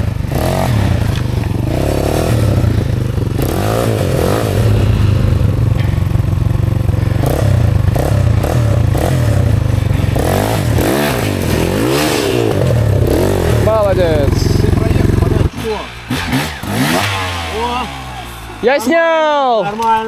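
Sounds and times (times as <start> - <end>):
motorcycle engine revving: 0.0 - 19.5.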